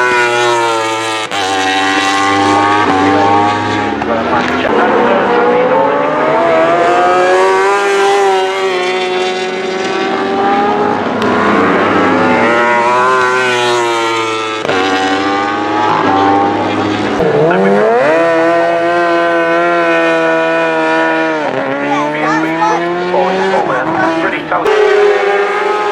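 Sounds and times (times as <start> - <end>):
superbike engines at high revs: 0.0 - 25.9.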